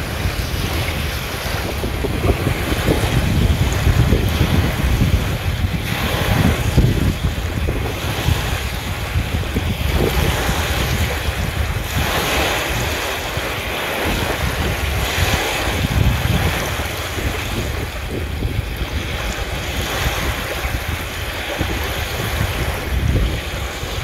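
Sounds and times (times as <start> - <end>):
waves washing over pebble shore: 0.0 - 24.0
wind buffeting microphone: 0.0 - 24.0.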